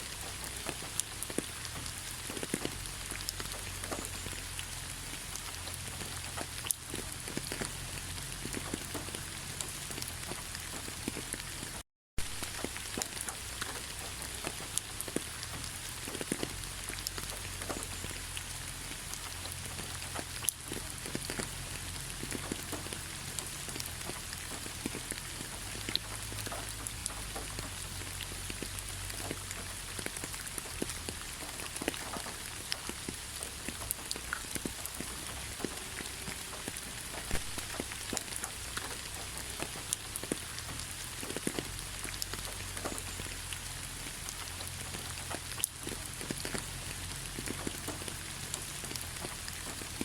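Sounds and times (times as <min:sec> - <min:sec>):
steady rain hissing: 0:00.0 - 0:50.0.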